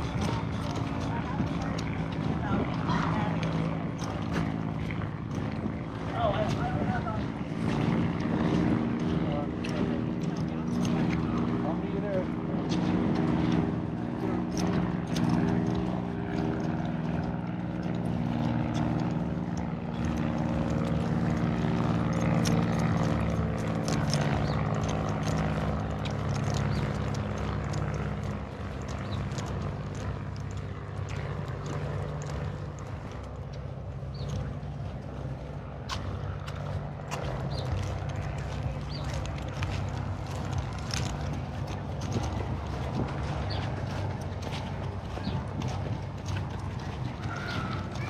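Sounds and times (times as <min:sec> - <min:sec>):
engine drone: 0:00.0 - 0:48.0.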